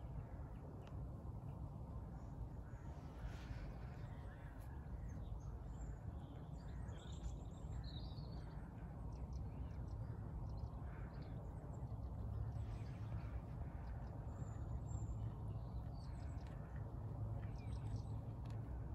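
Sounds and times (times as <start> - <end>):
steady low rumble: 1.1 - 18.9.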